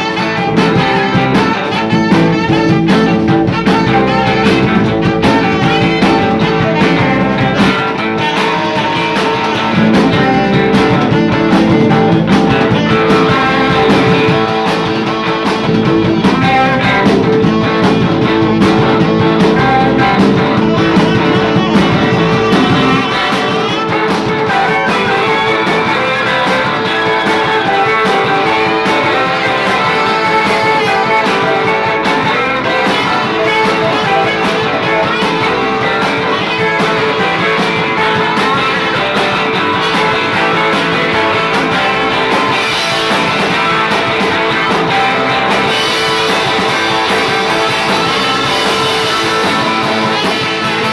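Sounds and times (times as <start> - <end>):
drums: 0.0 - 50.9
electric bass: 0.0 - 50.9
electric guitars: 0.0 - 50.9
saxophone: 0.0 - 50.9.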